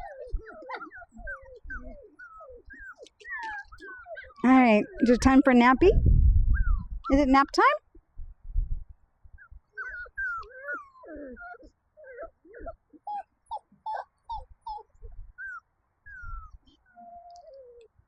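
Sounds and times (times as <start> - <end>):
puppies whimpering and squealing: 0.0 - 5.8, 6.6 - 6.9, 9.4 - 18.0.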